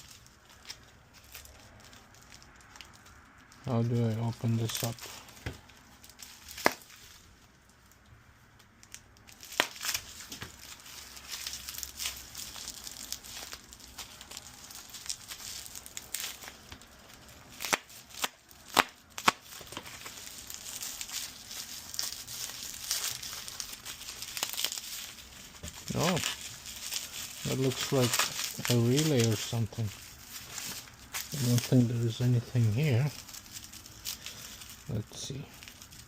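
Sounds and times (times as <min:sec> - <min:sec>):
packaging crinkling and tearing: 0:00.0 - 0:08.0, 0:08.6 - 0:36.0.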